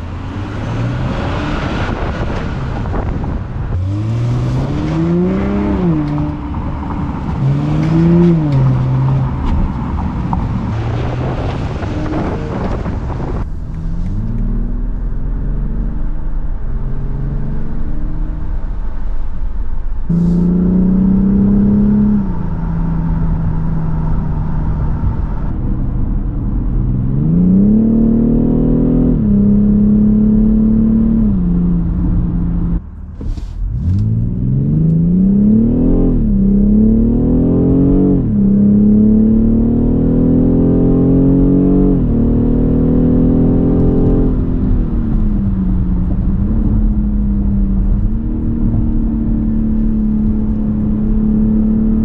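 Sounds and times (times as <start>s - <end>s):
car engine accelerating through gears: 0.0s - 52.0s.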